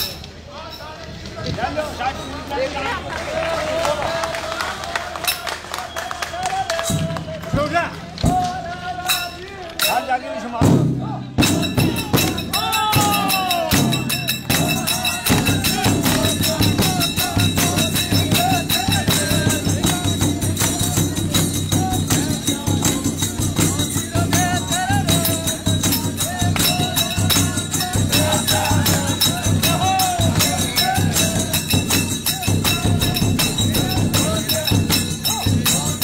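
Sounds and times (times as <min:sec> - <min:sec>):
jingling hand percussion: 0:00.0 - 0:03.0, 0:05.2 - 0:36.0
folk singing: 0:02.8 - 0:36.0.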